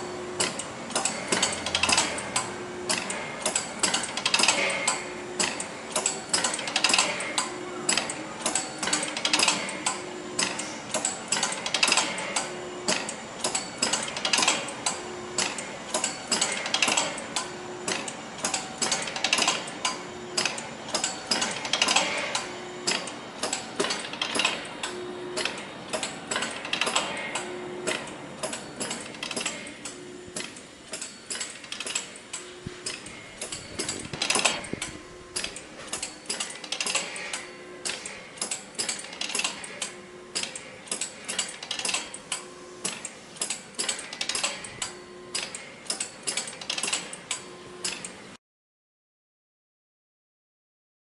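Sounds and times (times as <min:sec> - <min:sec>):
machine clicks and knocks: 0:00.0 - 0:48.3.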